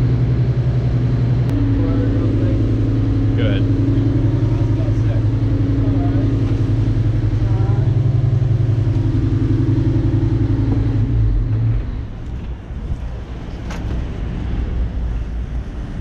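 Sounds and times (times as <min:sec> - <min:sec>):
boat diesel engine idling: 0:00.0 - 0:16.0.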